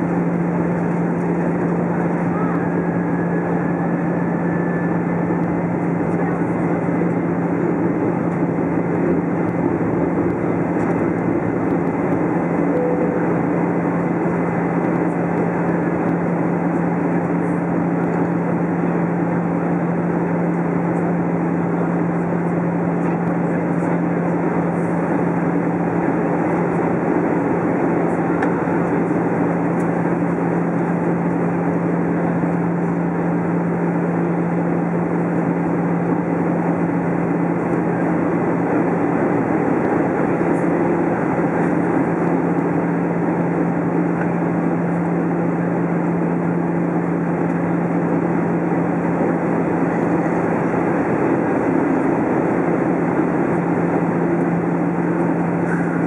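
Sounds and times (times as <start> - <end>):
constant low hum: 0.0 - 56.0
engine and airflow rush: 0.0 - 56.0.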